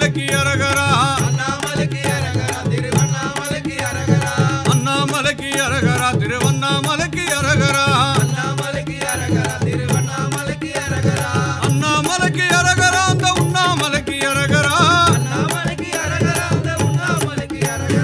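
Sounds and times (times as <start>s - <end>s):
devotional singing: 0.0s - 18.0s
hand drums: 0.0s - 18.0s.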